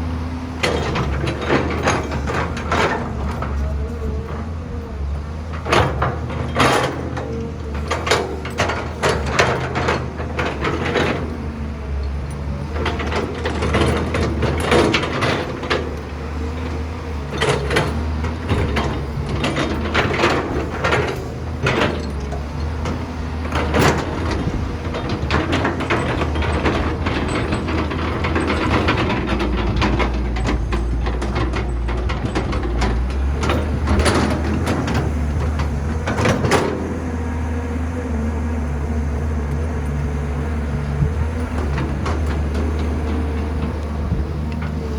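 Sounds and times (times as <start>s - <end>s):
diesel engine hum: 0.0s - 44.9s.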